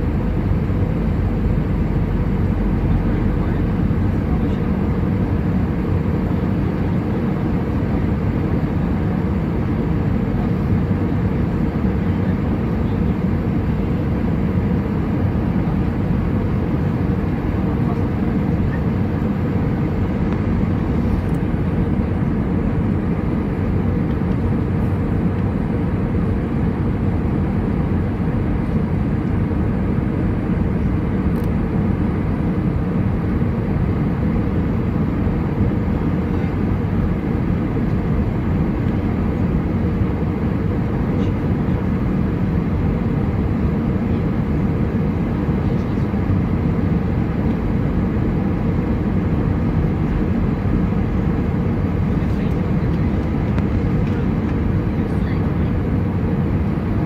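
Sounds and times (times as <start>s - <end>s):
airplane cabin engine rush: 0.0s - 57.0s.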